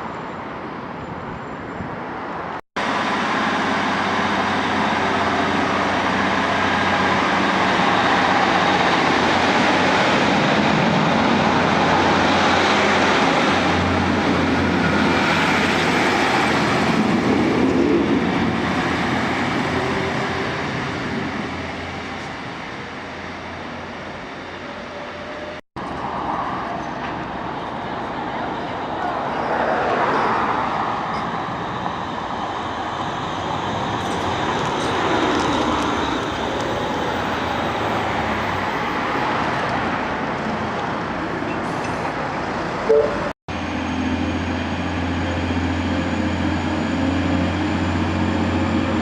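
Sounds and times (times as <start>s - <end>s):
train passing: 2.1s - 49.0s.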